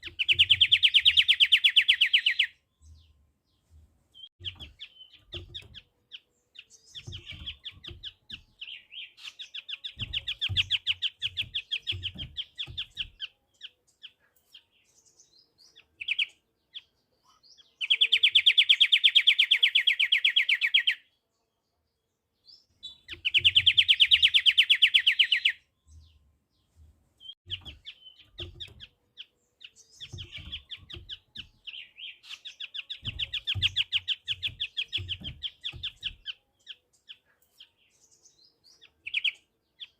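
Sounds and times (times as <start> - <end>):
bird singing trills: 0.0 - 21.4, 22.4 - 39.9.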